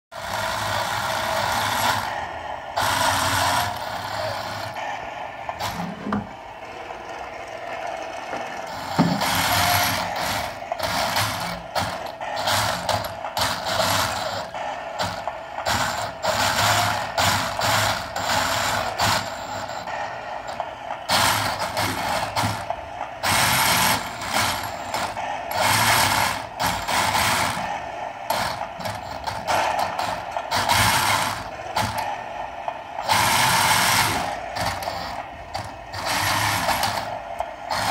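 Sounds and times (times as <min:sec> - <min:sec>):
model tank mechanical whirring: 0:00.1 - 0:37.9
steady hum: 0:00.1 - 0:37.9.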